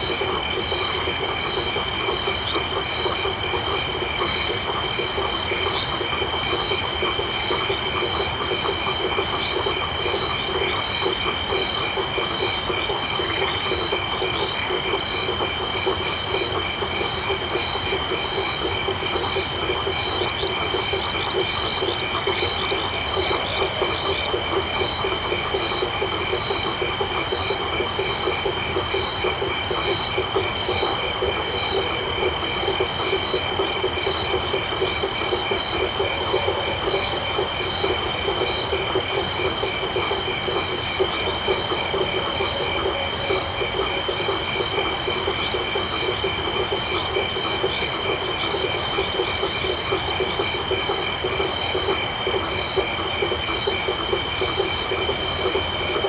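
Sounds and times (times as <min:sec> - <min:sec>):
frogs calling: 0:00.0 - 0:56.0
insects trilling: 0:00.0 - 0:56.0.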